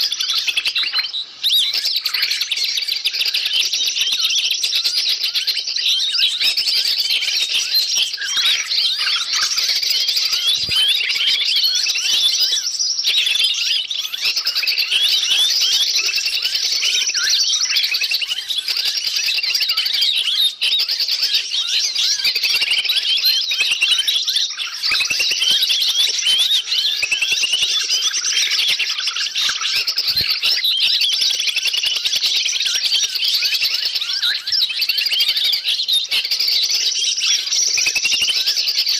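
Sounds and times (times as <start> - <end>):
small birds chirping and calling: 0.0 - 38.9.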